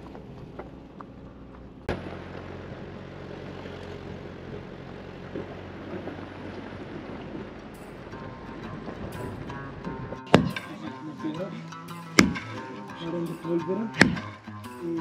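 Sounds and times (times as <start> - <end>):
wind buffeting microphone: 0.0 - 12.8
vehicle engine hum: 0.0 - 15.0.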